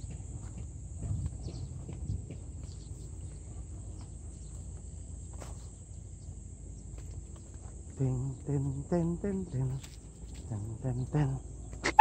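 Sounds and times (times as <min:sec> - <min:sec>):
faint footsteps on dried mud: 0:00.0 - 0:08.8, 0:09.5 - 0:10.8
insects chirring: 0:00.0 - 0:12.0.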